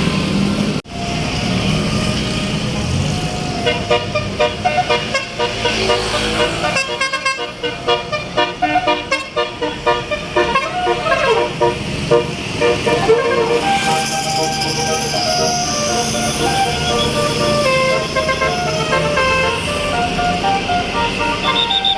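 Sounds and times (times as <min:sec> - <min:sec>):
musical air horn playing a tune: 0:03.6 - 0:21.9.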